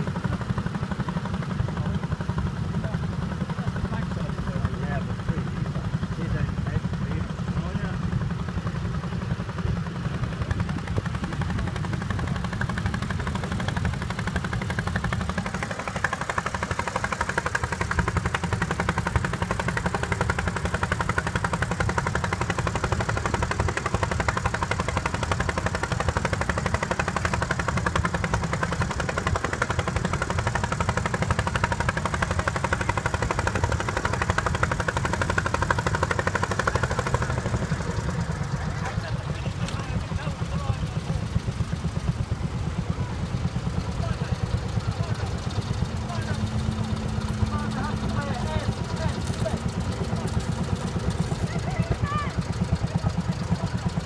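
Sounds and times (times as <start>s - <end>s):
garden tractor engine chugging: 0.0s - 54.0s.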